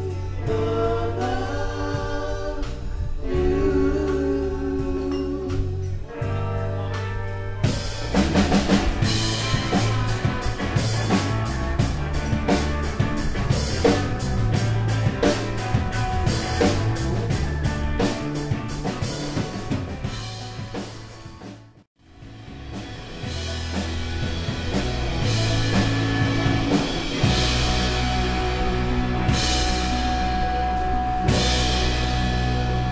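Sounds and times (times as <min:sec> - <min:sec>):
electric guitars: 0:00.0 - 0:21.6, 0:22.2 - 0:32.9
drum kit: 0:00.0 - 0:32.9.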